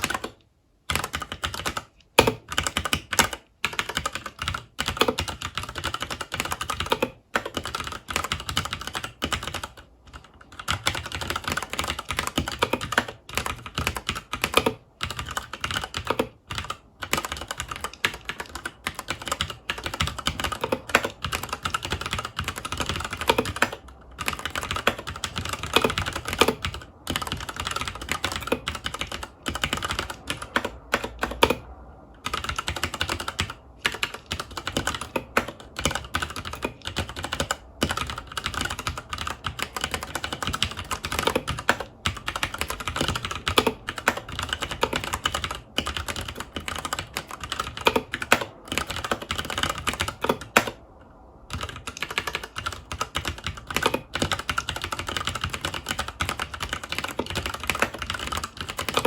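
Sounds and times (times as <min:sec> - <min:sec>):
mechanical keyboard typing: 0:00.0 - 0:50.8, 0:51.5 - 0:59.0.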